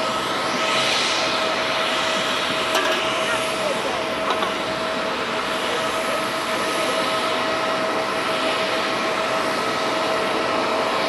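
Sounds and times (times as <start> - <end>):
turbofan engine whine: 0.0 - 11.0.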